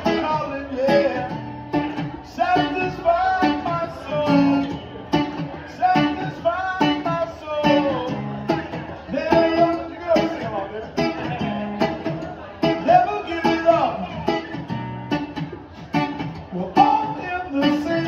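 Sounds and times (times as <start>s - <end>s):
man singing: 0.0s - 14.5s, 16.3s - 18.0s
strummed acoustic guitar: 0.0s - 18.0s.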